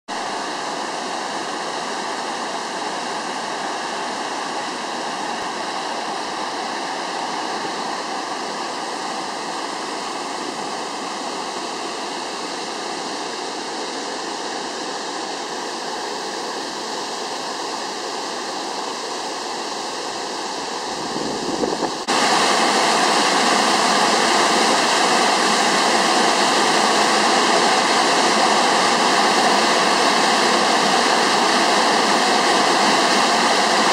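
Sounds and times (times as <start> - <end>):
creek cascading over rocks: 0.1 - 33.9
waterfall rushing: 0.1 - 33.9.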